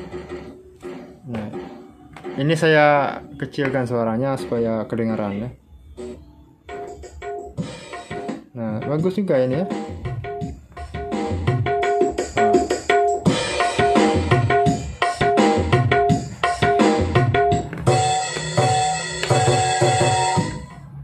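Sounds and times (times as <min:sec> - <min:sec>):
music with steady drum beat: 0:00.0 - 0:04.9, 0:06.0 - 0:20.7.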